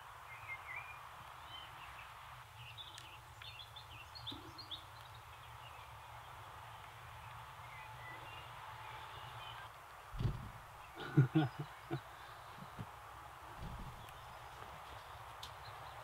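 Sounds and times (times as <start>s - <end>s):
faint outdoor background noise: 0.0s - 16.0s
small birds chirping: 0.1s - 16.0s.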